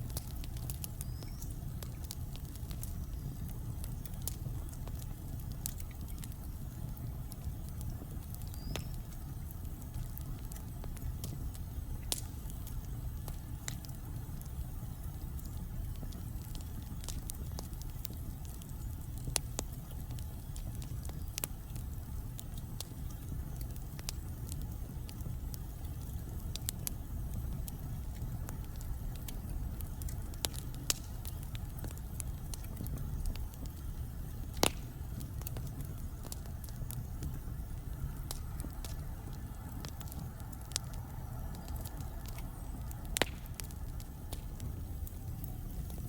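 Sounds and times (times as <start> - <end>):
fire crackling and popping: 0.0 - 46.0
low rumble of flames: 0.0 - 46.0.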